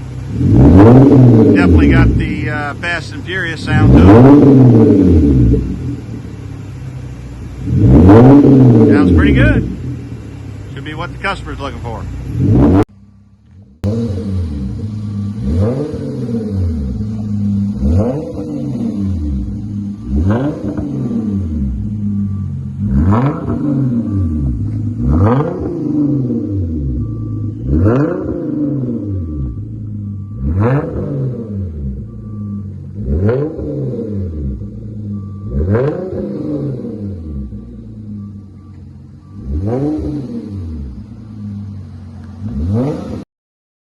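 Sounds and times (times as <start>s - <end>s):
car engine idling and revving: 0.0s - 43.3s.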